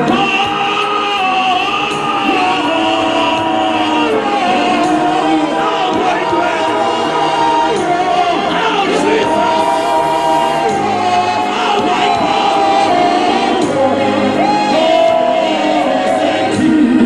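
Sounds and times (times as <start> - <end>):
congregation and choir singing gospel: 0.0 - 17.0.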